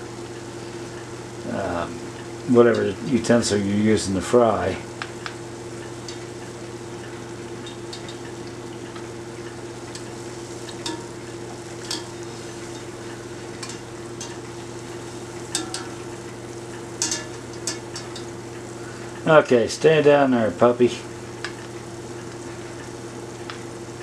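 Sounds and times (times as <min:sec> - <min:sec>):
dough sizzling in hot oil: 0:00.0 - 0:24.0.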